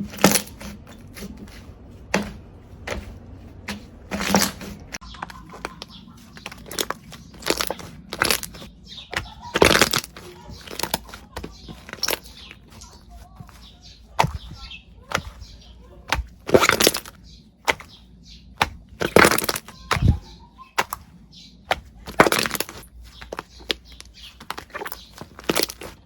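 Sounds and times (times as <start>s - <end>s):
slime crunching: 0.0s - 26.0s.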